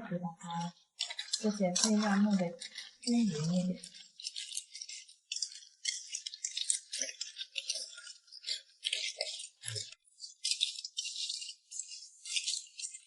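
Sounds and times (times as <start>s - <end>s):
shrimp shells rattling in a bowl: 0.4s - 13.0s.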